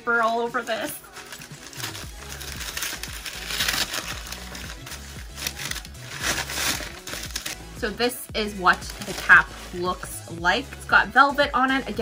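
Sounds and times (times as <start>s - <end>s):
background music: 0.0s - 12.0s
tissue paper crinkling: 0.2s - 7.8s, 8.5s - 10.8s.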